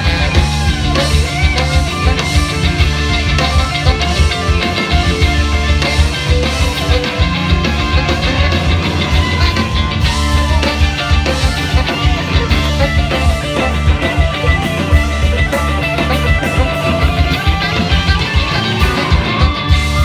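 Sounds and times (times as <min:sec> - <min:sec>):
electric guitar: 0:00.0 - 0:20.0
heavy bass line: 0:00.0 - 0:20.0
steady drum beat: 0:00.0 - 0:20.0.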